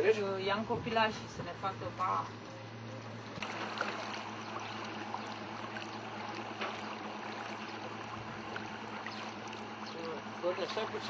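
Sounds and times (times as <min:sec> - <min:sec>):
motorboat engine humming: 0:00.0 - 0:11.0
water splashing along hull: 0:01.0 - 0:11.0.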